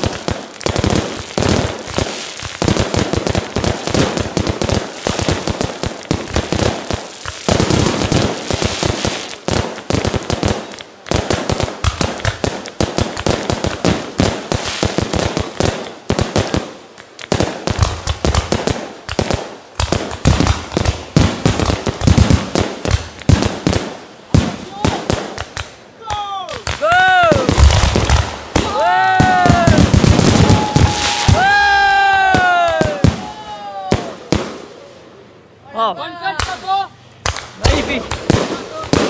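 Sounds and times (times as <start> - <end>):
fireworks crackling and banging: 0.0 - 35.0, 35.8 - 39.0.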